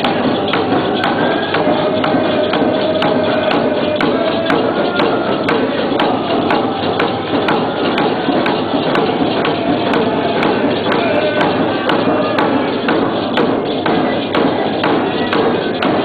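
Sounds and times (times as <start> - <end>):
person singing: 0.0 - 16.0
steady percussion beat: 0.0 - 16.0.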